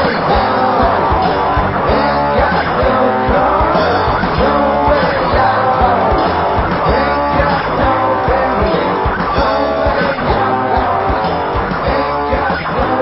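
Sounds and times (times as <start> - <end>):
rock song with guitars and drums: 0.0 - 13.0.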